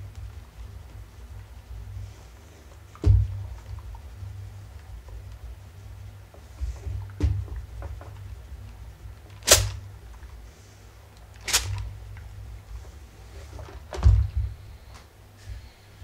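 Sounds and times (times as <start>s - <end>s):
low handling rumble: 0.0s - 16.0s.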